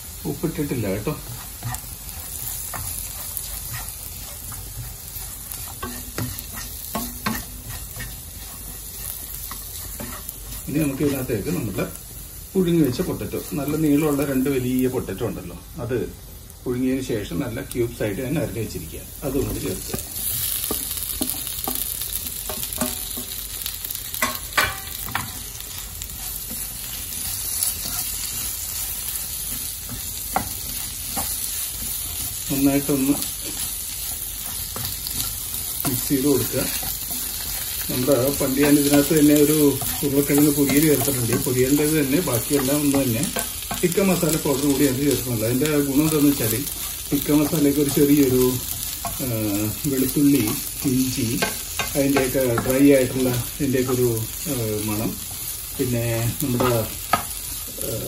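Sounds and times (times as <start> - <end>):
onions sizzling in hot oil: 0.0 - 58.0
spoon scraping a pan: 0.9 - 11.5, 19.4 - 57.8.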